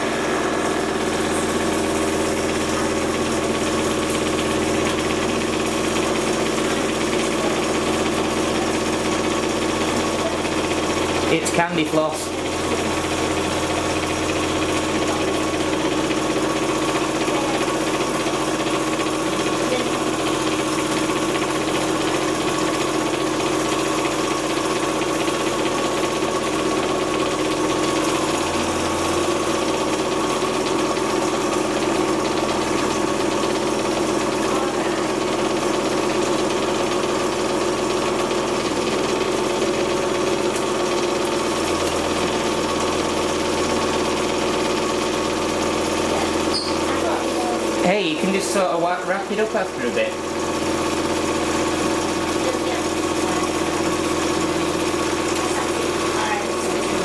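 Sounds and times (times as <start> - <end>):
candyfloss machine motor humming: 0.0 - 57.0.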